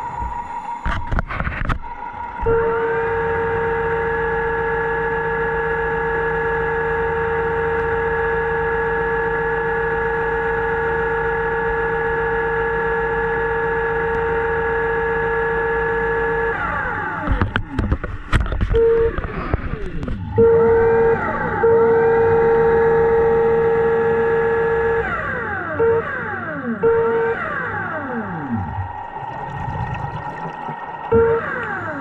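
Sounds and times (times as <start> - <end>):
underwater electric motor whining: 0.0 - 32.0.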